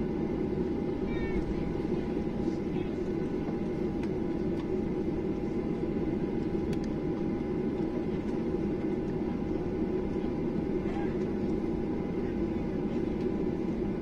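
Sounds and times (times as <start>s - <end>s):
cabin air: 0.0s - 14.0s
faint steady whine: 0.0s - 14.0s
jet engine low rumble: 0.0s - 14.0s.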